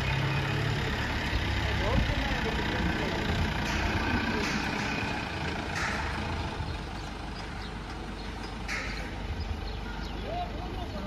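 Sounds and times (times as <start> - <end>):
diesel truck pulling away: 0.0 - 11.0.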